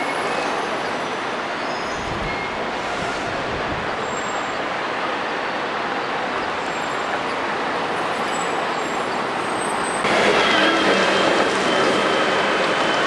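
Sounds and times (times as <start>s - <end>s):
bus passing close: 0.0s - 13.0s
street traffic: 0.0s - 13.0s.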